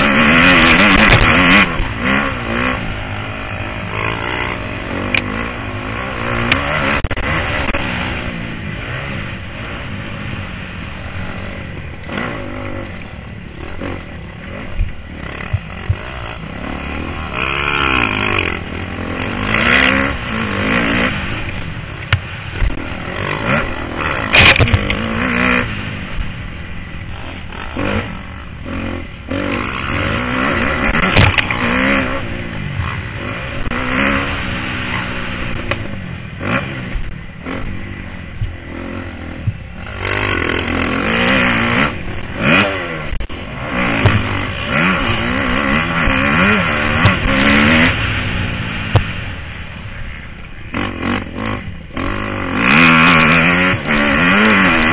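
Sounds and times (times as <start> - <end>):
motocross bike engine revving: 0.0 - 54.9.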